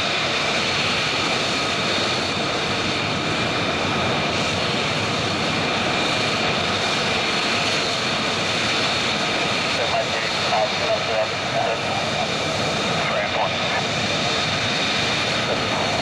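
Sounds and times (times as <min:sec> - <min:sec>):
fighter jet engine running: 0:00.0 - 0:16.0.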